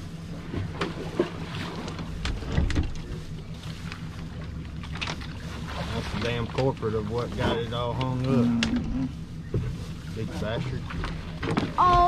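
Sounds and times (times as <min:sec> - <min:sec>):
boat motor humming: 0:00.0 - 0:12.0
knocks and clicks on boat: 0:00.4 - 0:12.0.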